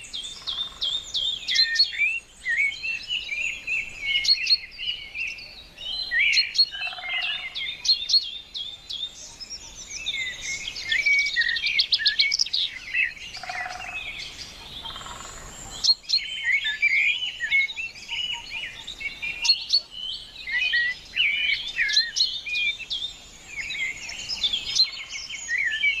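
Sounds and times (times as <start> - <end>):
bird trill: 0.0 - 26.0
birds singing and chirping: 0.0 - 26.0.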